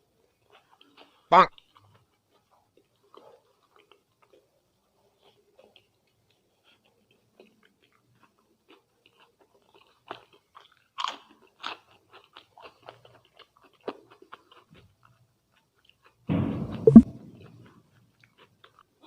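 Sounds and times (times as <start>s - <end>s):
chewing with crisp crunches: 0.0s - 19.0s.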